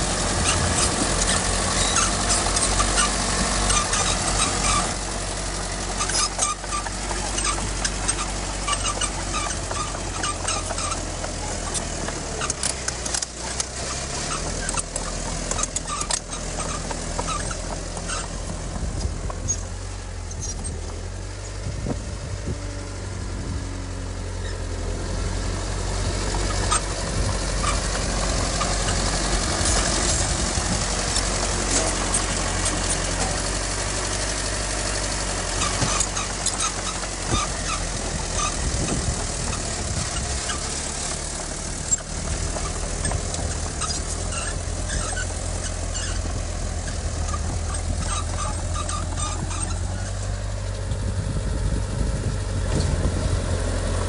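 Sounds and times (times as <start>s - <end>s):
short squeaks: 0.0s - 23.0s, 24.2s - 51.8s
diesel machine engine drone: 0.0s - 54.0s.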